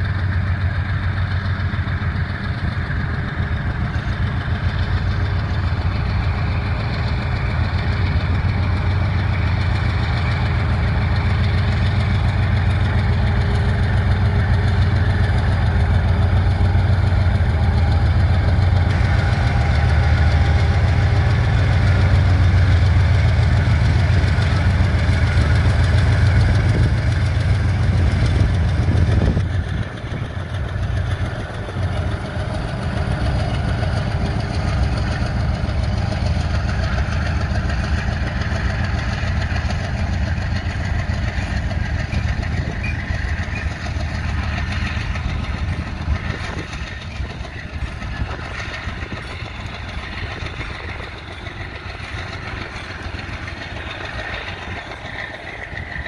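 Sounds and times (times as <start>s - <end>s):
locomotive diesel engine drone: 0.0s - 56.0s.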